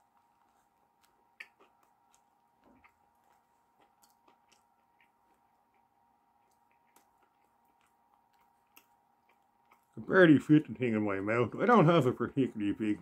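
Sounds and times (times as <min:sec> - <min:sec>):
chewing food: 0:00.0 - 0:11.6
faint steady hum: 0:00.0 - 0:13.0.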